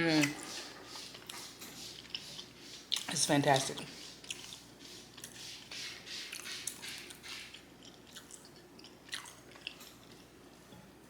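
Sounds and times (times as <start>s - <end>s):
wet chewing sounds: 0.0s - 10.3s.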